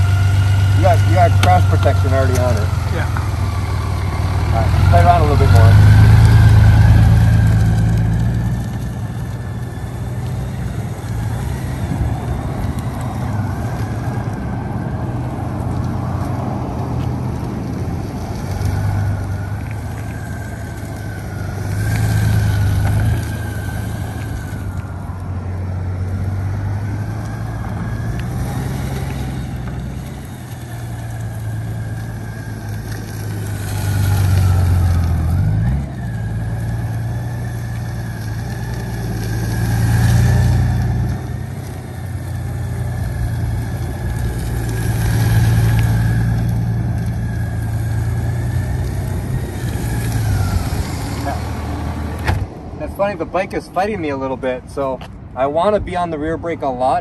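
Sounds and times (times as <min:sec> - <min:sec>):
motorcycle engine running at low speed: 0:02.6 - 0:16.3, 0:17.0 - 0:52.2.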